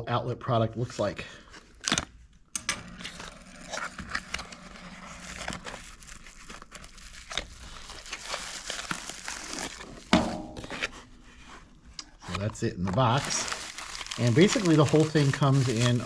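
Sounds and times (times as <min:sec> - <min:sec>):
packaging crinkling and rustling: 0:02.9 - 0:16.0.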